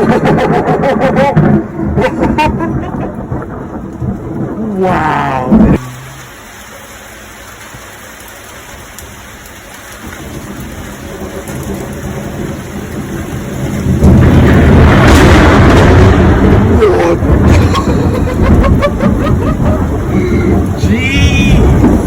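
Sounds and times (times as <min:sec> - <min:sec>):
thunder rumbling: 0:00.0 - 0:06.5, 0:10.0 - 0:22.0
steady rain: 0:00.0 - 0:22.0.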